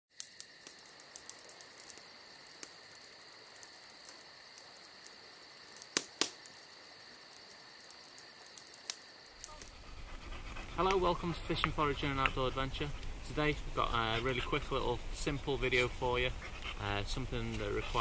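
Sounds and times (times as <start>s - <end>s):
insects chirring: 0.1s - 18.0s
scattered ticks: 0.2s - 14.8s.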